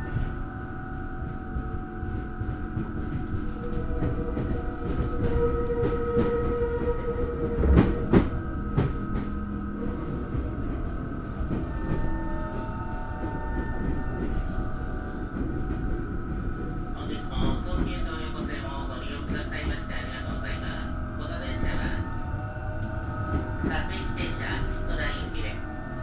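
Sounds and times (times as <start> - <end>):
train running with high whine: 0.0 - 26.0.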